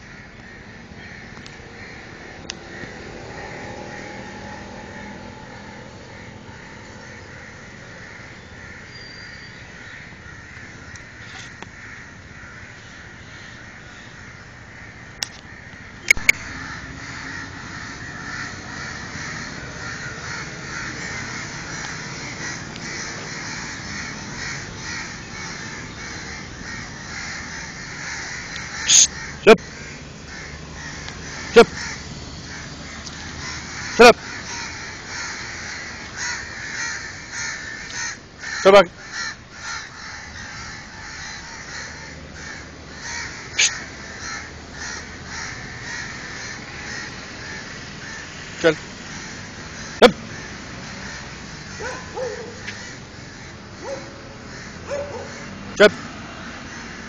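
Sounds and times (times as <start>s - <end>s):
crows cawing: 0.0s - 57.0s.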